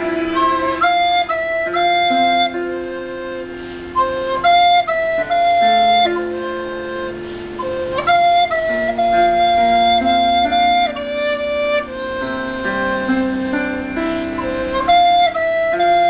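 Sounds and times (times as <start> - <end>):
low held backing notes: 0.0 - 16.0
recorder playing slow melody: 0.0 - 16.0.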